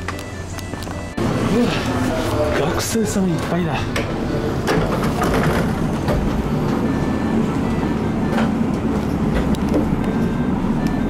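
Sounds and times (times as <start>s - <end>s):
train car hum and rumble: 0.0s - 11.0s.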